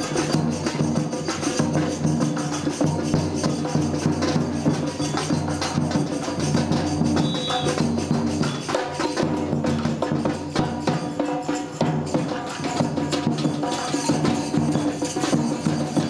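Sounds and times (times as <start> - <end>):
samba music: 0.0 - 16.0.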